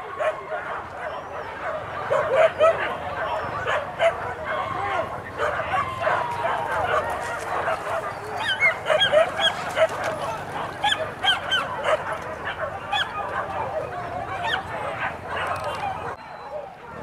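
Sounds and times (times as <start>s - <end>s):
dogs yelping and baying: 0.0s - 16.6s.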